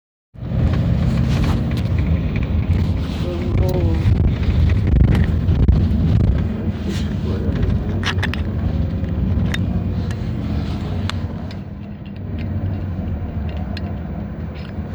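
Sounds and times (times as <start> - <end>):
bus engine and road rumble: 0.4 - 14.9
bus interior rattles and clicks: 0.4 - 14.9.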